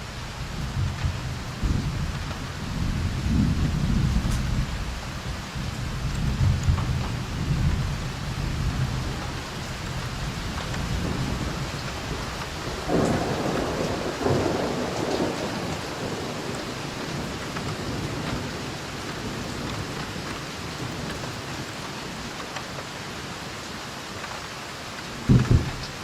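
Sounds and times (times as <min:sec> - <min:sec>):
thunder rumbling: 0:00.0 - 0:22.3, 0:25.2 - 0:26.0
steady rain: 0:00.0 - 0:26.0.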